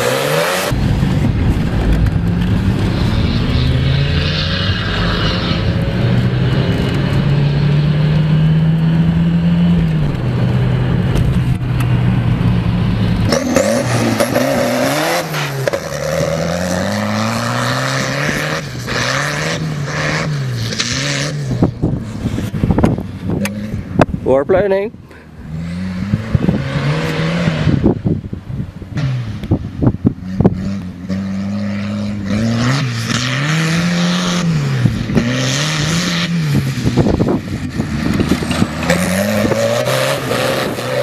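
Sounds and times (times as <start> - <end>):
tractor engine revving: 0.0 - 28.0, 30.1 - 41.0.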